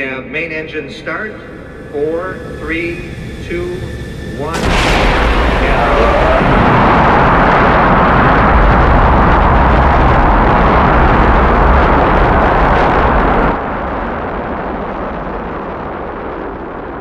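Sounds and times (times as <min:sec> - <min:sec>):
rocket engines roaring: 0:00.0 - 0:17.0.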